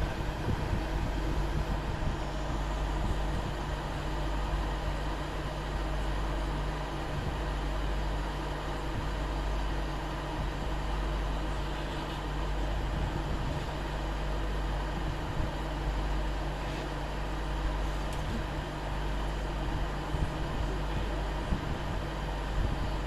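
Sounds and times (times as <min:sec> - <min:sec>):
moving vehicle rumble and hiss: 0:00.0 - 0:23.0.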